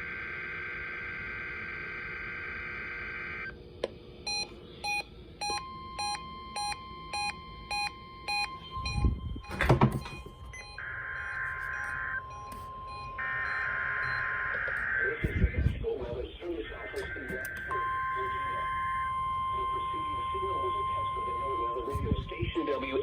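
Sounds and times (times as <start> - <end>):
steady warning alarm tone: 4.3 - 23.0
weather radio beeping: 4.3 - 23.0.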